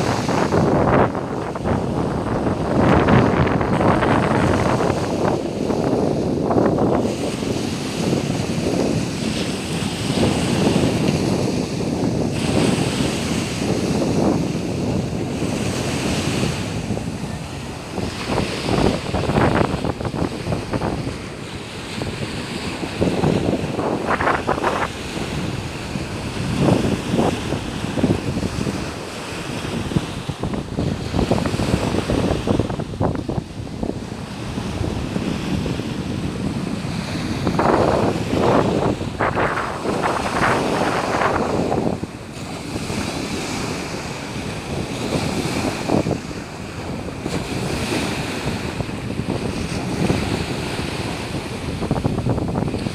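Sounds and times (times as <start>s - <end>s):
sea waves washing on beach: 0.0s - 52.9s
wind buffeting microphone: 0.0s - 52.9s.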